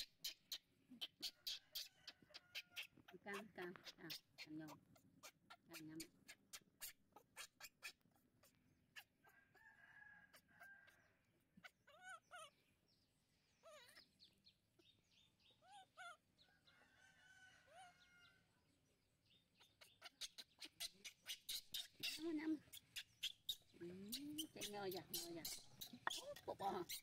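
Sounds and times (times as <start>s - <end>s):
faint animal calls: 0.0s - 12.8s, 13.5s - 14.9s, 15.6s - 18.5s, 19.6s - 27.0s.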